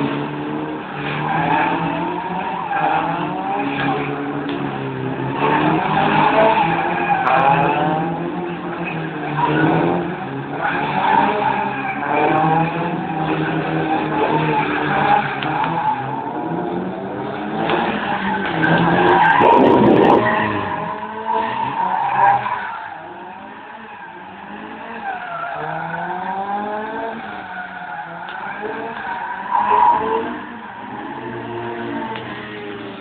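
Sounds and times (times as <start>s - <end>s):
car engine revving: 0.0s - 33.0s
tyres skidding: 0.0s - 33.0s.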